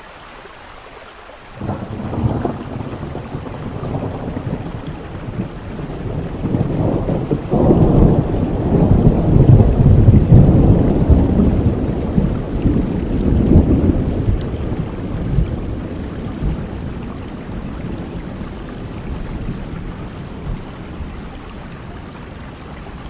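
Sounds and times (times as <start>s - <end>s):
steady rainfall: 0.0s - 23.0s
thunder rolling: 1.6s - 21.3s.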